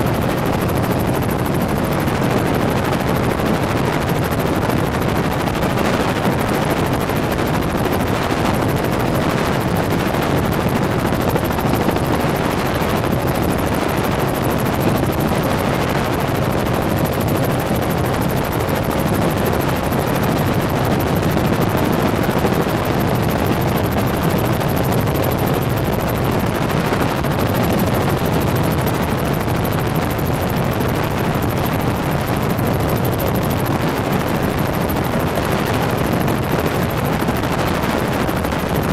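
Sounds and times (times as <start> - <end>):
helicopter rotor drone: 0.0 - 38.9.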